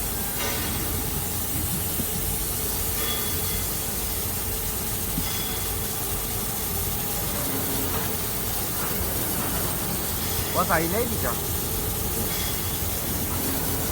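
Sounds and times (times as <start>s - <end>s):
laser cutting jet hissing: 0.0s - 13.9s.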